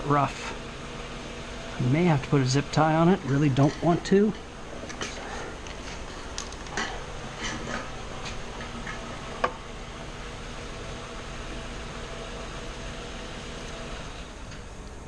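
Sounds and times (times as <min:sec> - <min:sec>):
fan-like hum: 0:00.0 - 0:15.0.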